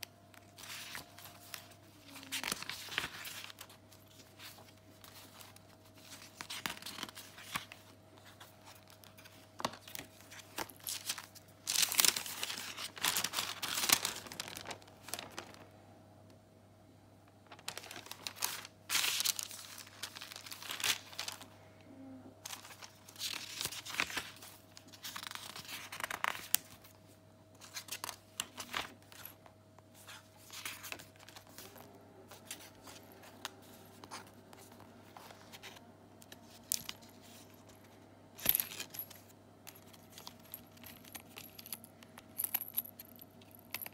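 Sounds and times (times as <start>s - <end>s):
paper pages rustling and crinkling: 0.0s - 15.8s, 17.4s - 21.5s, 22.4s - 27.0s, 27.6s - 41.7s.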